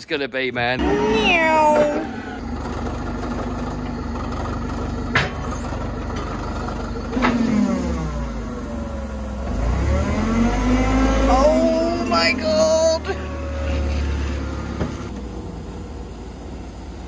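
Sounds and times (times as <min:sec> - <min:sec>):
forklift engine running: 0:00.7 - 0:17.0.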